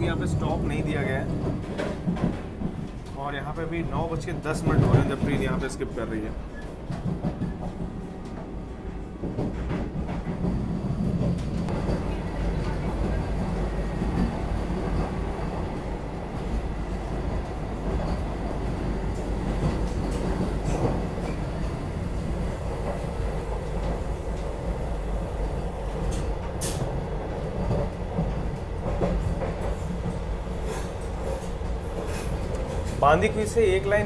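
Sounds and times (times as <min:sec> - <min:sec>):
train low rumble: 0:00.0 - 0:34.0.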